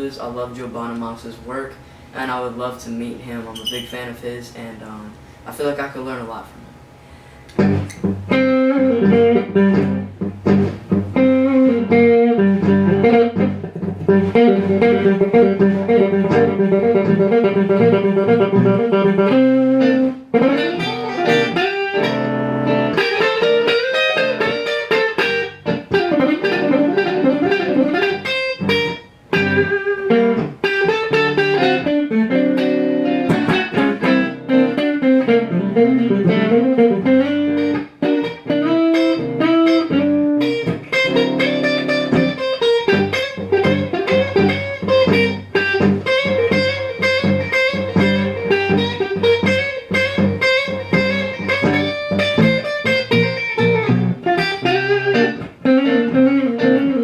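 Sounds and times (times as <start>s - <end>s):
blues guitar picking: 7.0s - 57.0s.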